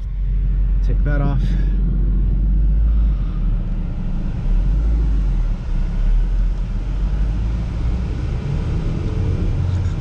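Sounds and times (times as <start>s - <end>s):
car engine rumble: 0.0s - 10.0s
road noise: 0.0s - 10.0s.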